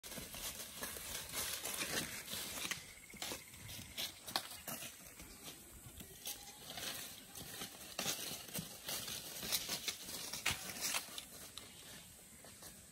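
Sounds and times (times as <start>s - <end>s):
footsteps crunching dry leaves: 0.0s - 12.9s.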